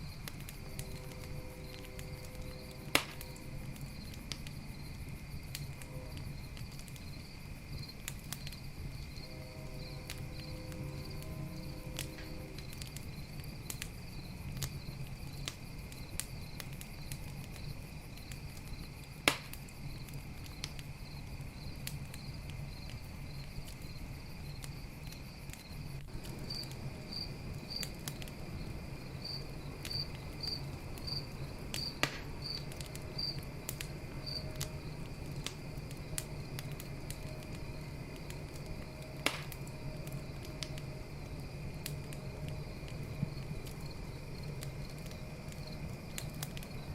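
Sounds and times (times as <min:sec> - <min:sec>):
campfire crackling: 0:00.0 - 0:46.9
crickets chirping: 0:00.0 - 0:46.9
loud fire pops: 0:00.0 - 0:46.9.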